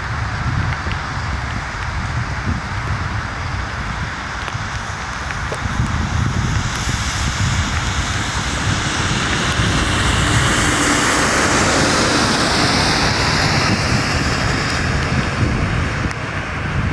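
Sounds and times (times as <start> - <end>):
aircraft engine rushing: 0.0 - 16.9.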